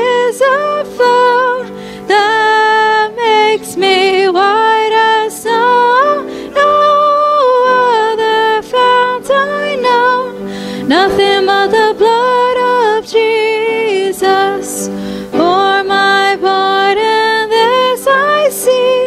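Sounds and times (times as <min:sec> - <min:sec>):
hymn singing: 0:00.0 - 0:19.0
solo voice singing: 0:00.0 - 0:19.0.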